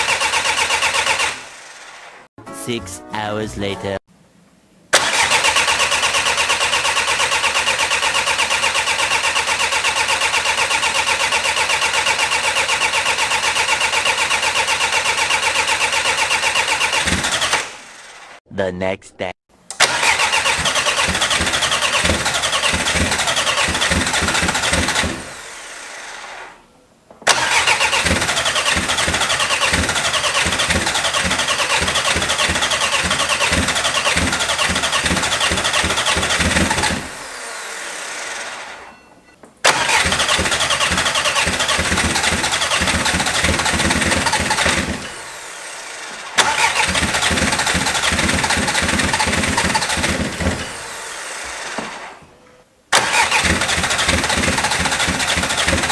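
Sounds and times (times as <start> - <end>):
diesel engine cranking on starter: 0.0 - 2.2, 4.9 - 18.4, 19.7 - 26.6, 27.2 - 38.9, 39.6 - 52.2, 52.9 - 55.9.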